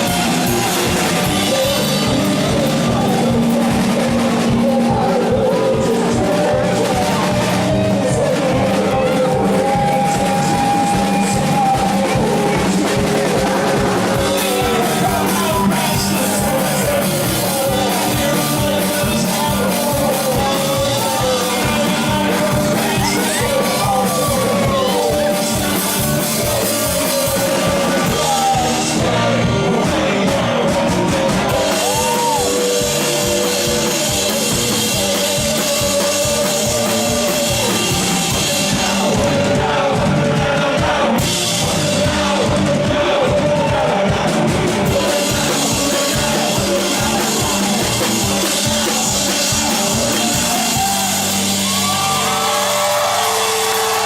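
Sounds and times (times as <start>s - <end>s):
fast drumbeat: 0.0s - 54.0s
live rock band playing: 0.0s - 54.0s
person singing: 0.0s - 54.0s.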